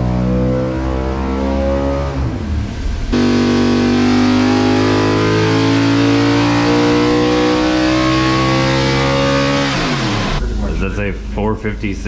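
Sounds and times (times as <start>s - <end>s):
racing engine revving at full throttle: 0.0s - 10.4s.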